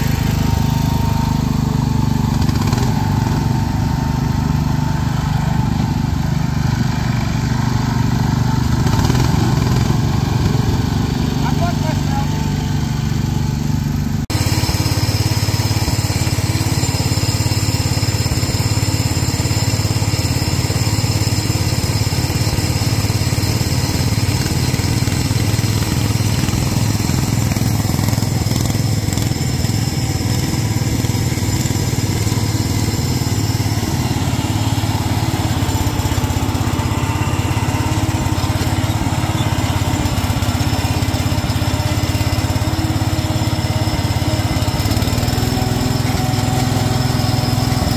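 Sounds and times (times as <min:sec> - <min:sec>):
small tractor engines running: 0:00.0 - 0:47.9.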